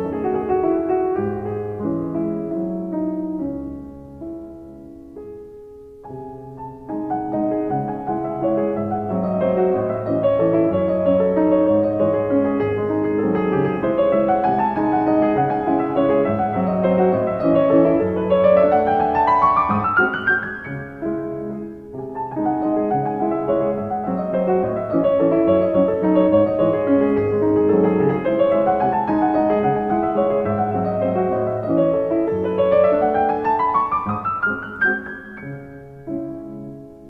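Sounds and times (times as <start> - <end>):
solo piano music: 0.0 - 37.0.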